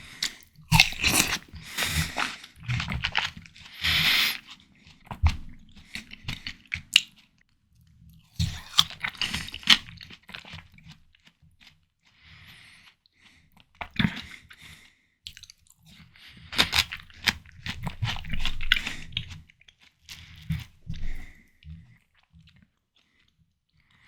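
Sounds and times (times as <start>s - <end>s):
biting and chewing watermelon: 0.0s - 7.4s, 8.1s - 23.9s.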